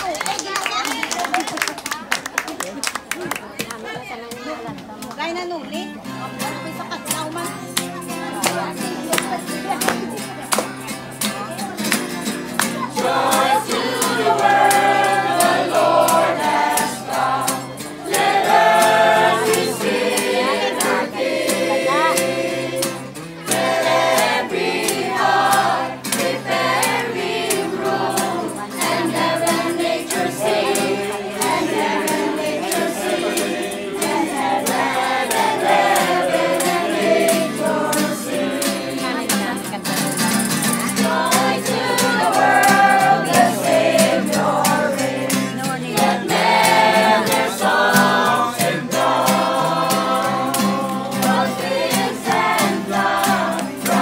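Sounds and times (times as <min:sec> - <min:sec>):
strummed acoustic guitar: 0:05.8 - 0:54.0
group singing a carol: 0:06.7 - 0:54.0.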